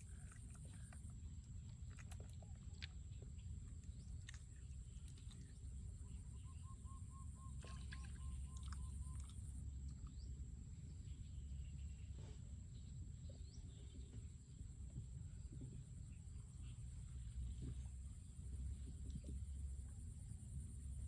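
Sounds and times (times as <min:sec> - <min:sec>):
distant bird calls: 0:00.0 - 0:19.6
low rumble: 0:00.0 - 0:21.0.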